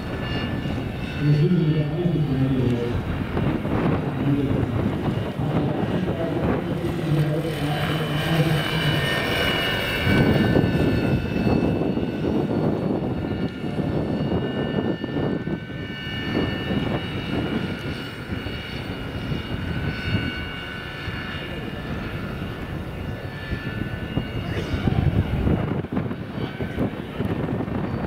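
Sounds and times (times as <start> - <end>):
rotor rushing: 0.0 - 22.9
model helicopter motor whine: 0.0 - 28.0.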